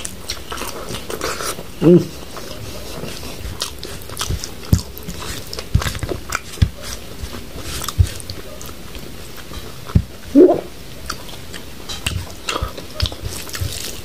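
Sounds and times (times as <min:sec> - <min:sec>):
chewing and wet mouth sounds: 0:00.0 - 0:14.0.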